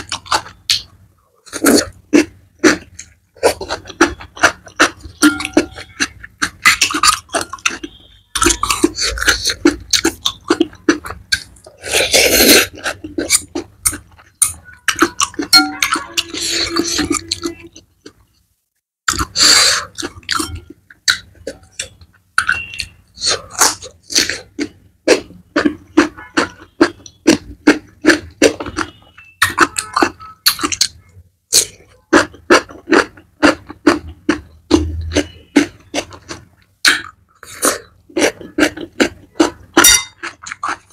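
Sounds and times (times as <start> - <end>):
chewing noodles: 0.0 - 18.3, 19.1 - 40.9.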